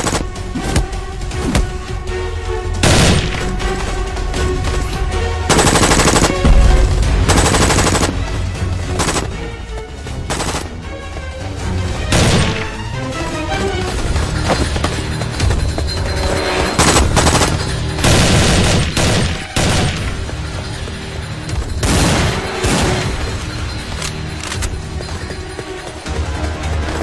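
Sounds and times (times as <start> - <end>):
dramatic action film music: 0.0 - 27.0.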